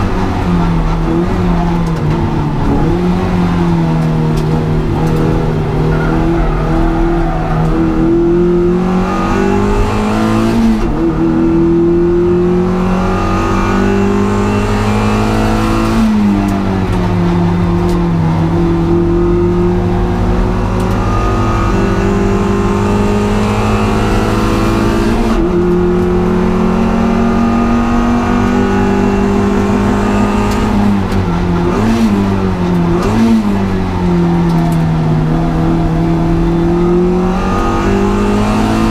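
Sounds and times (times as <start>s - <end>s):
race car engine running hard: 0.0s - 38.9s.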